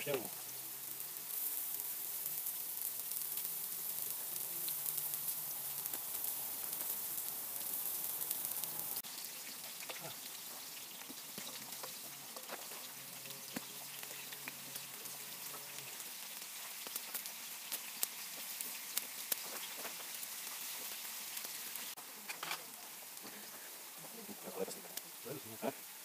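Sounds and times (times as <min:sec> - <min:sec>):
food sizzling in hot fat: 0:00.0 - 0:26.0.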